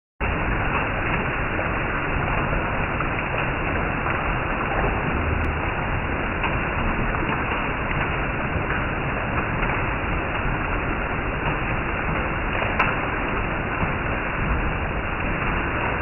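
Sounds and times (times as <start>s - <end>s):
heavy rain on roof and trees: 0.2s - 16.0s.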